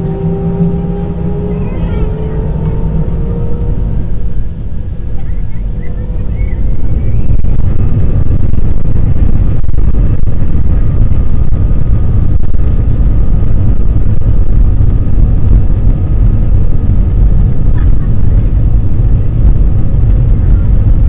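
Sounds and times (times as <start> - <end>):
faint steady whine: 0.0 - 21.0
jet engines at high thrust: 0.0 - 21.0.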